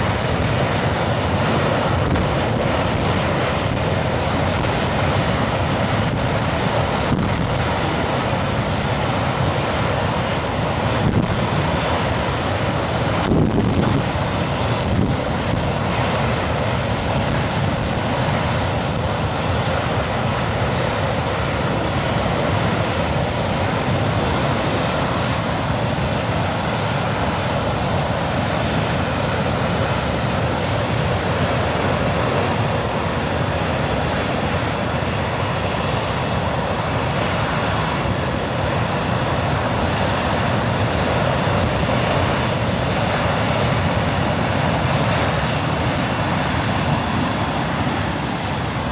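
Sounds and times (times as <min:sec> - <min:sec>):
jet engine roaring: 0:00.0 - 0:48.9.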